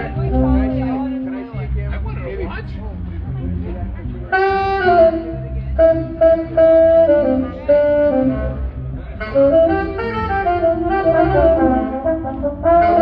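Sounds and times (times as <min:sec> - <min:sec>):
horn melody: 0:00.0 - 0:01.8, 0:04.3 - 0:13.0
pulsing low rhythm section: 0:00.0 - 0:13.0.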